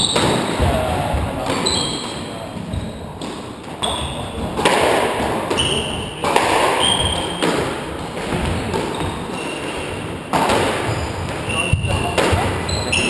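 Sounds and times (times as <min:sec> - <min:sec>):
shoes squeaking on wooden floor: 0:00.0 - 0:13.0
squash ball hits: 0:00.0 - 0:13.0.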